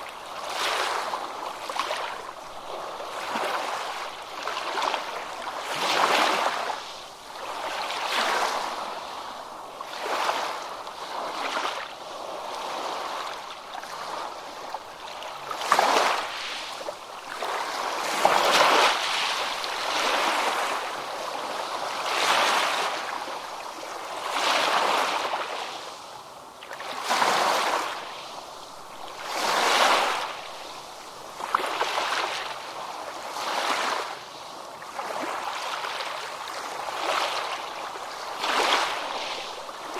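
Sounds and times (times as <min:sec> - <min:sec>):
ocean waves breaking: 0:00.0 - 0:26.0, 0:26.6 - 0:39.9.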